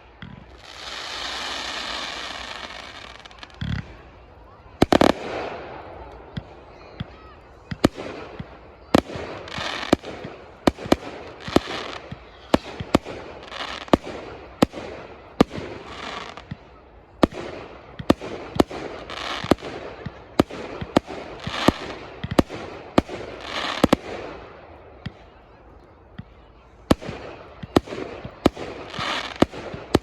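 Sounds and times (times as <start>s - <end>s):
fireworks bangs: 0.0s - 30.0s
fireworks hiss and crackle: 0.0s - 30.0s.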